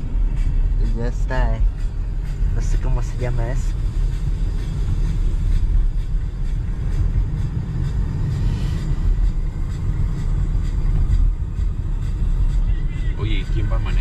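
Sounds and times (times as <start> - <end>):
car tyres and engine rumble: 0.0 - 14.0.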